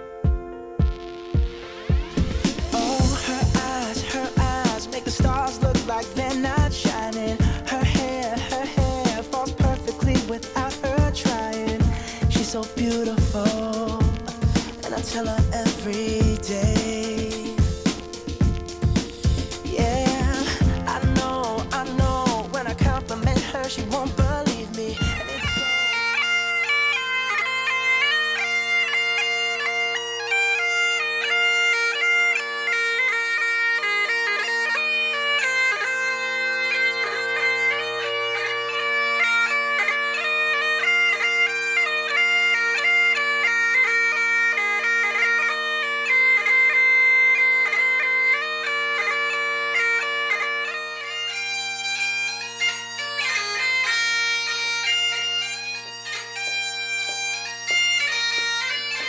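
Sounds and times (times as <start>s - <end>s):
bagpipes playing a tune: 2.2s - 12.4s, 16.0s - 59.0s.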